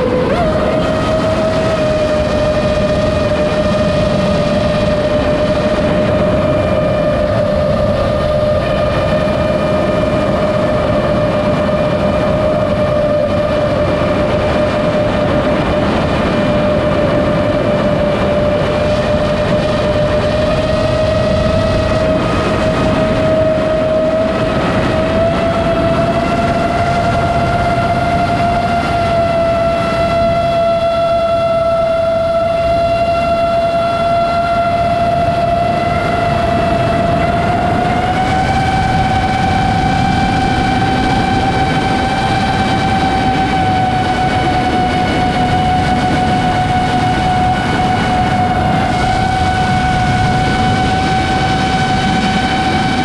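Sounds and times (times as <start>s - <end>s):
drone motors whining: 0.0s - 53.0s
prop wash and wind rush: 0.0s - 53.0s.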